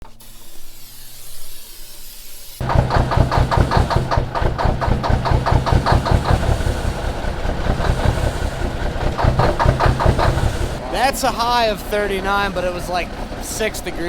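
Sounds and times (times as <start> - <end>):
diesel engine idling: 2.6 - 14.0.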